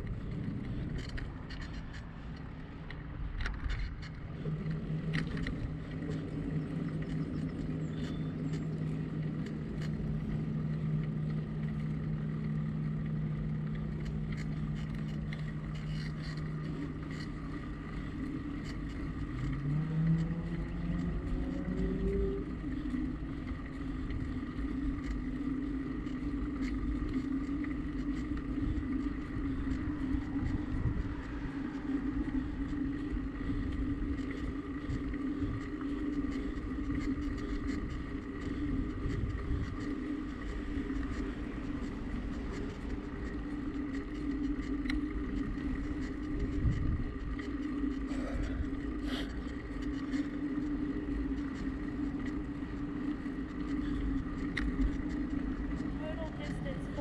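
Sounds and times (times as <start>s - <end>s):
bicycle riding hum: 0.0s - 57.0s
wind rumble on microphone: 0.0s - 57.0s.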